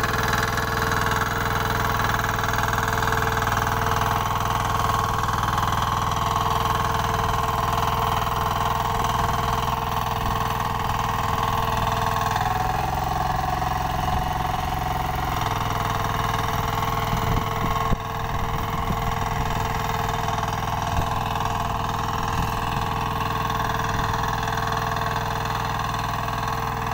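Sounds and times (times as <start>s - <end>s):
power tiller engine running: 0.0s - 26.9s.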